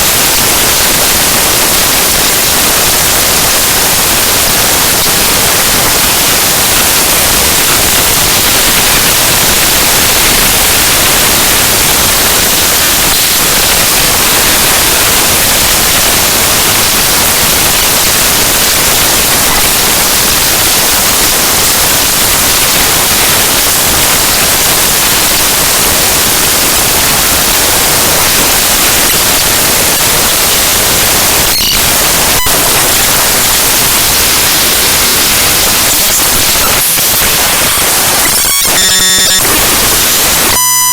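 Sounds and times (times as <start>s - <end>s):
harsh static hiss: 0.0s - 40.9s.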